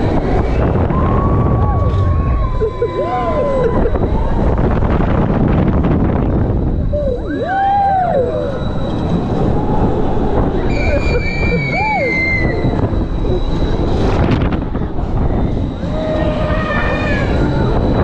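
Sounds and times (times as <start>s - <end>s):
high gliding squeals: 0.0s - 18.0s
roller coaster rumbling on track: 0.0s - 18.0s.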